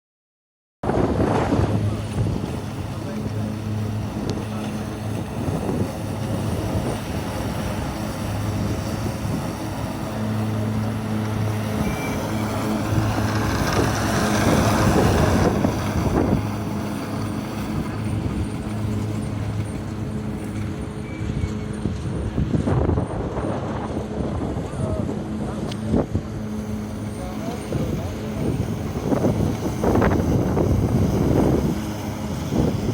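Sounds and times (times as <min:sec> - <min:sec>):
wind on microphone: 0:00.8 - 0:32.9
electric motor hum: 0:01.0 - 0:32.9.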